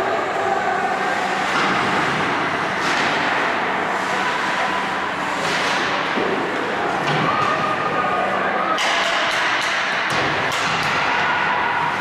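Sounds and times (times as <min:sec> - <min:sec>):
hubbub of rink: 0:00.0 - 0:12.0.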